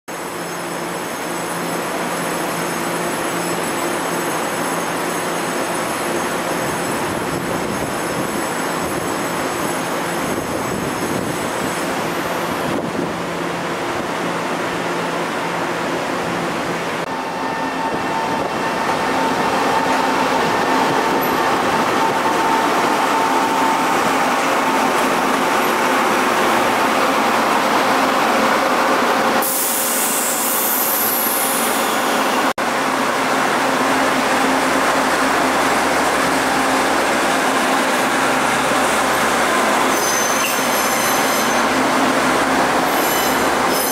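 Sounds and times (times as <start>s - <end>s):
diesel railcars running past: 0.1s - 43.9s.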